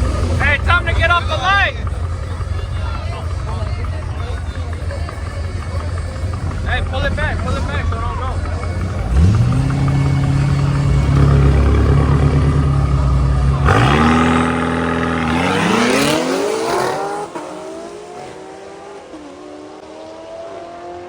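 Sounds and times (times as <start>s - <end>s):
drag cars at full throttle: 0.0s - 21.0s.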